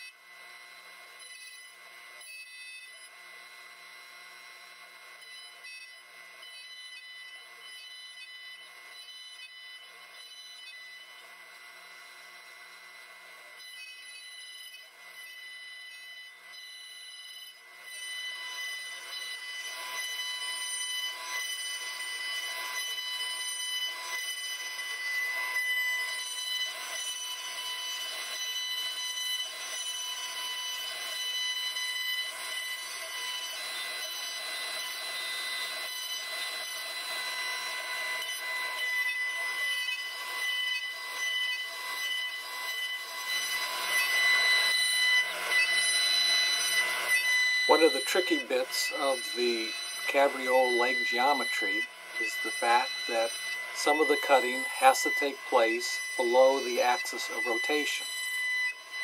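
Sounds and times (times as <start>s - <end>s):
router spindle high-pitched whine: 0.0s - 59.0s
wood being cut: 0.0s - 59.0s.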